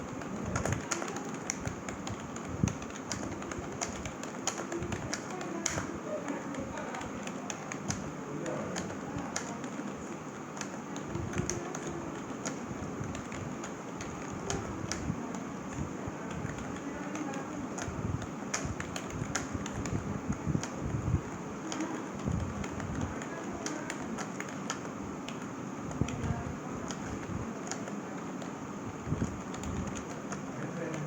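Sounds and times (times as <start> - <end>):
keyboard key clicks: 0.0 - 15.4, 16.2 - 31.0.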